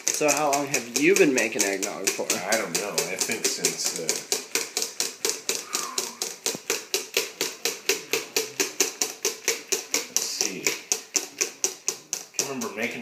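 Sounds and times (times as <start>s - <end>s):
wire whisk clattering in metal bowl: 0.0s - 13.0s.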